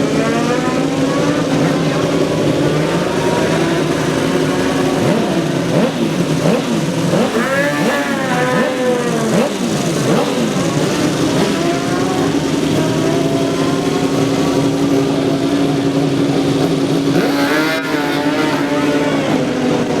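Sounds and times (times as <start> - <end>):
motorcycles revving and launching: 0.0 - 20.0
steady engine note: 0.0 - 20.0.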